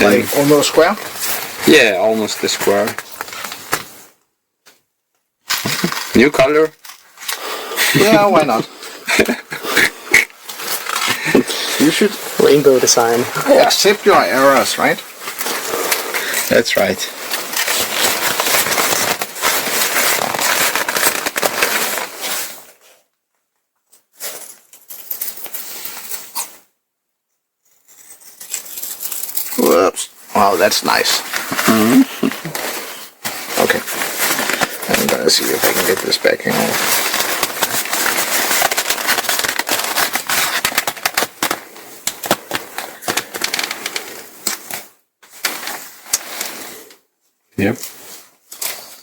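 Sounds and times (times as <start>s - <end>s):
nylon sheet crinkling: 0.0s - 4.0s, 5.5s - 23.0s, 27.9s - 47.0s, 47.8s - 49.0s.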